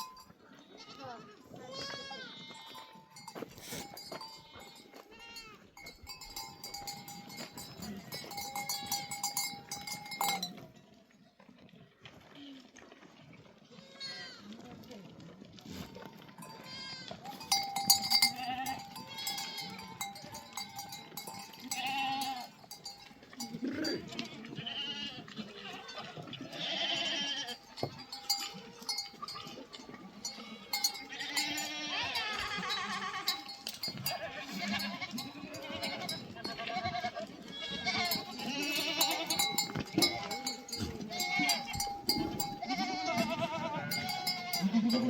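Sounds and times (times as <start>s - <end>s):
livestock bells clinking: 0.0s - 0.9s, 2.0s - 10.9s, 16.0s - 45.0s
sheep and goats bleating: 0.0s - 10.7s, 13.6s - 14.9s, 15.6s - 45.0s.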